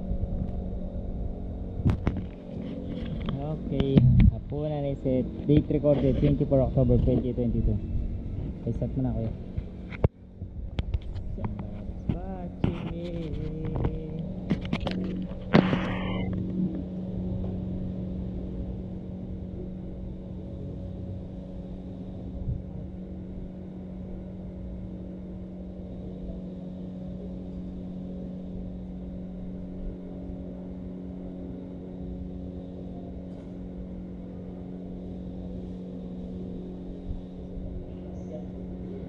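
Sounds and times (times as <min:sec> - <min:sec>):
low machine hum: 0:00.0 - 0:39.0.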